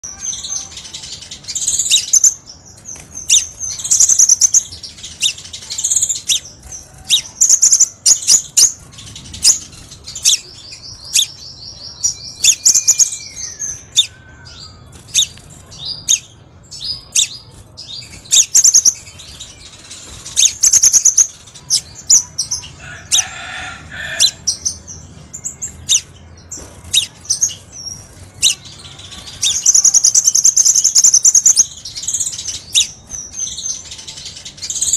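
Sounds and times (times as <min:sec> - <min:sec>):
bird calling with chirps and ticks: 0:00.0 - 0:23.2, 0:24.1 - 0:34.9
bird trill: 0:00.0 - 0:34.9.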